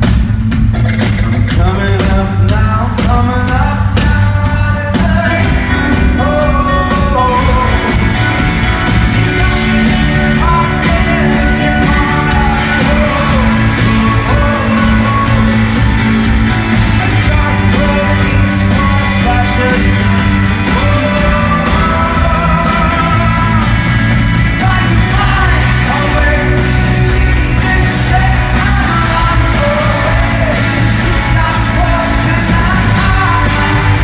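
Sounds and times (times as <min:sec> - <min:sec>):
rock band playing live: 0:00.0 - 0:34.0
person singing: 0:01.2 - 0:34.0.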